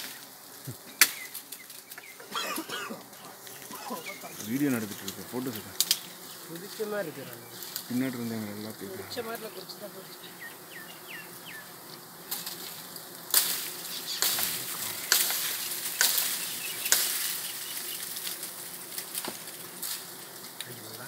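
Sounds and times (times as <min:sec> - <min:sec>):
rustles and crackles: 0:00.0 - 0:10.2, 0:11.7 - 0:21.0
bees buzzing: 0:00.0 - 0:21.0.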